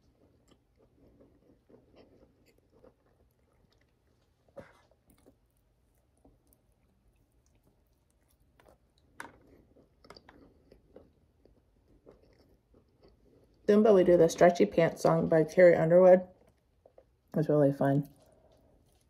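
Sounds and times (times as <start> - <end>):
person chewing food: 0.0 - 13.7, 16.4 - 17.3, 18.0 - 19.0.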